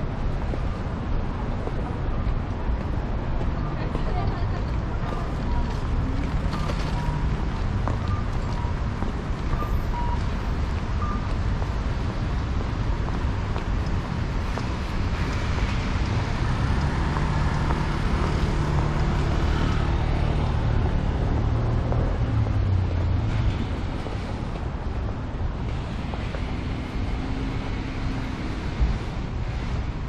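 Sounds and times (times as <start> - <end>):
low traffic rumble: 0.0 - 30.0
vehicles passing: 0.0 - 30.0.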